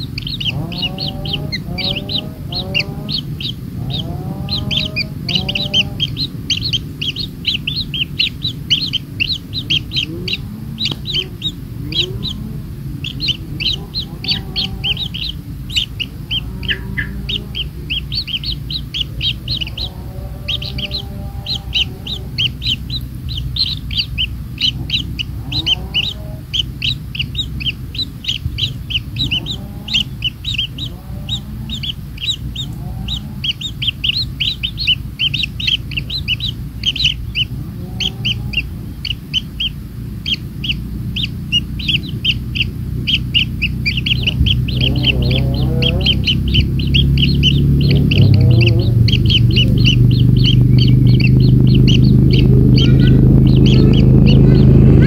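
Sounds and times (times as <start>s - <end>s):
nestlings chirping: 0.0s - 55.0s.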